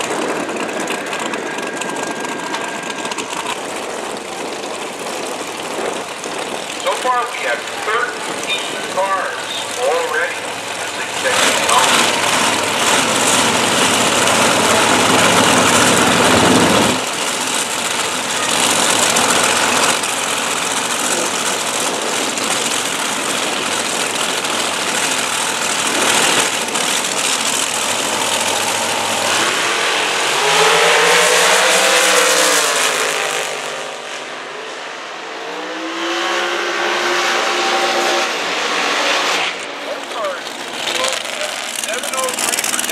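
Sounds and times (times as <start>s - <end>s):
race engines roaring: 0.0s - 42.9s.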